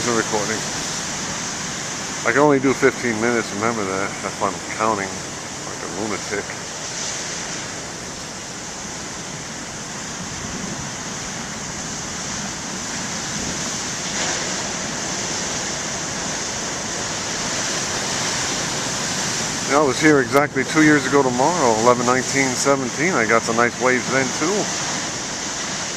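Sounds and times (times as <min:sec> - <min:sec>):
waves breaking on rocky shore: 0:00.0 - 0:25.9
wind noise: 0:00.0 - 0:25.9.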